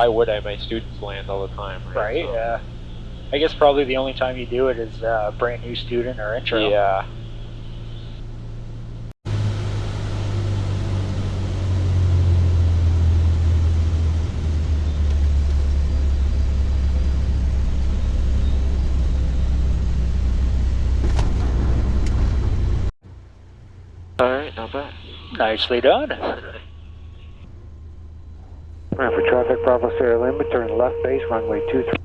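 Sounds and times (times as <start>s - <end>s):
aircraft engine and propeller droning: 0.0s - 22.9s, 23.7s - 32.0s.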